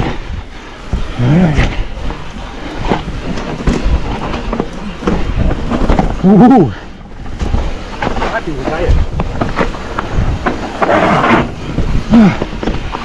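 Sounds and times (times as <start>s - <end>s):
bike knocking and clattering: 0.0s - 13.0s
bike tyres rumbling over rock: 0.0s - 13.0s.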